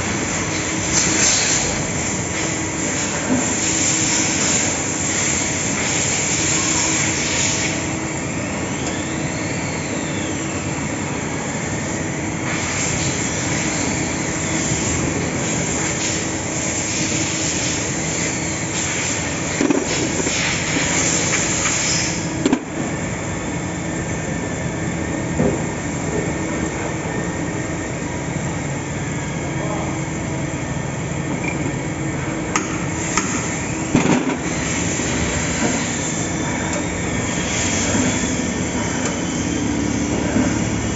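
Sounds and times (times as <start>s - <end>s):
high machine whine: 0.0s - 40.9s
machine mechanical hum: 0.0s - 40.9s.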